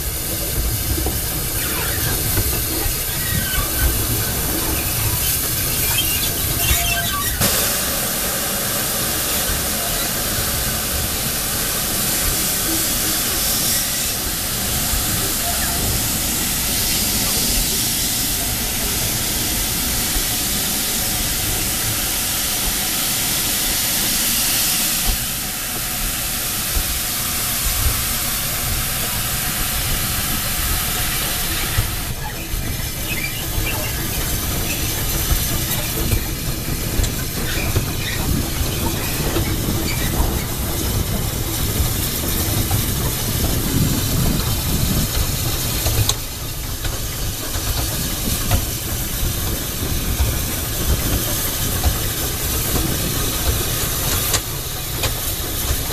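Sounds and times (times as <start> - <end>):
steam hissing: 0.0 - 55.9
steam locomotive running: 0.0 - 55.9.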